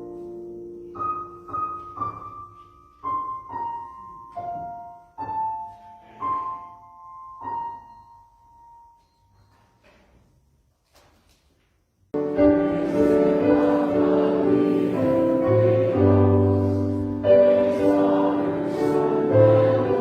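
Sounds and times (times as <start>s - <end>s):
slow piano melody: 0.0s - 9.8s, 12.2s - 20.0s.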